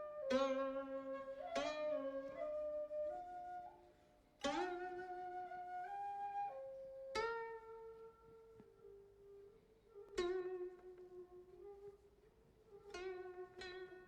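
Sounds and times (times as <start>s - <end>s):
flute-like melody: 0.0s - 12.0s.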